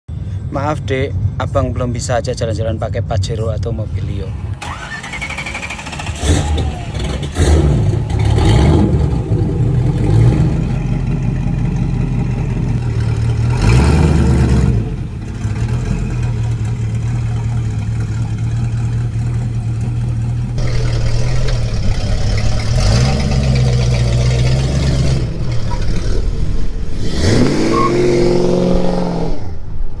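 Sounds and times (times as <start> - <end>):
car engine revving: 4.5 - 30.0.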